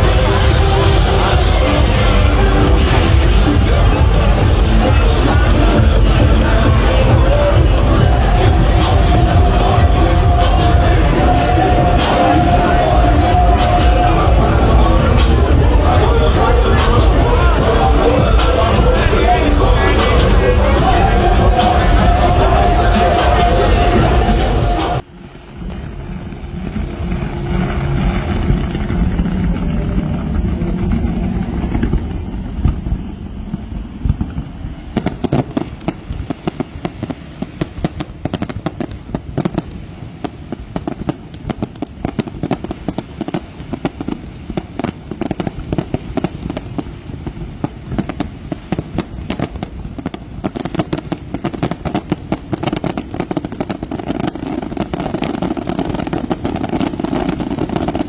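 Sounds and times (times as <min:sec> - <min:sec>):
fireworks booming: 0:00.0 - 0:58.0
fireworks crackling pops: 0:00.0 - 0:58.0.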